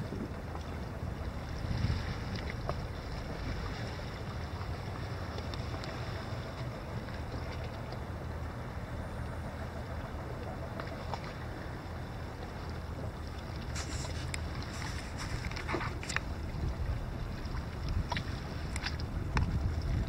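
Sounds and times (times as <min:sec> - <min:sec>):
small waves lapping on rocks: 0:00.0 - 0:08.6, 0:10.5 - 0:20.0
wind rumble on microphone: 0:00.0 - 0:20.0.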